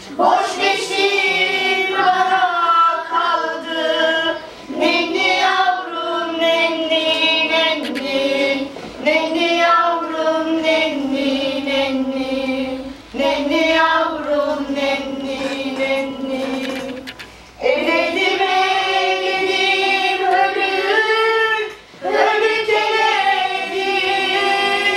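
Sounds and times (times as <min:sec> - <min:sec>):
high voices singing slowly: 0:00.0 - 0:24.9.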